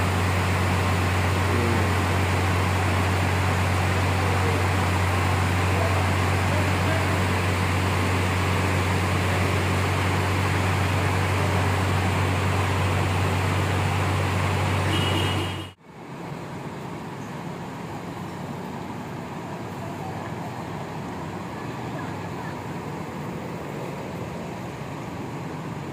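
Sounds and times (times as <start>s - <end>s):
bus diesel engine idling: 0.0s - 25.9s.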